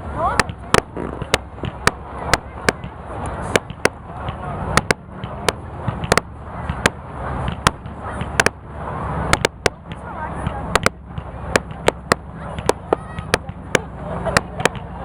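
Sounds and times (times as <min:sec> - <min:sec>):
continuous noisy rumble: 0:00.0 - 0:15.0.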